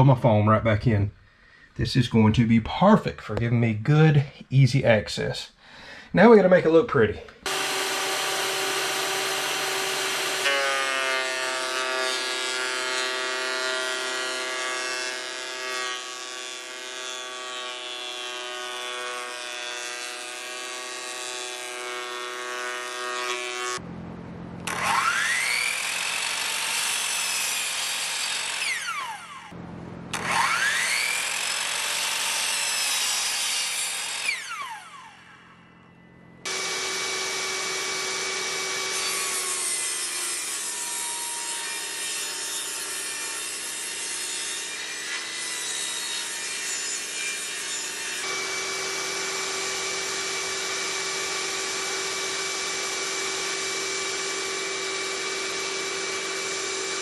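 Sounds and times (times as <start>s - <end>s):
miter saw cutting wood: 7.4s - 23.8s, 24.6s - 35.7s, 36.4s - 57.0s
table saw cutting boards: 7.4s - 23.8s, 24.6s - 35.4s, 36.4s - 57.0s.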